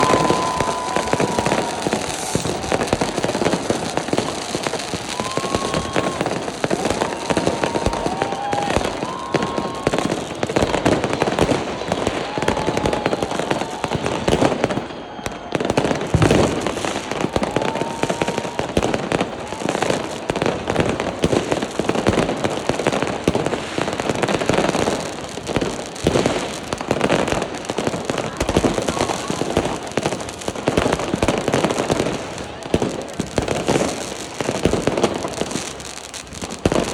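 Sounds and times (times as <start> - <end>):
firework whistles: 0.0 - 36.9
fireworks crackling and banging: 0.0 - 36.9.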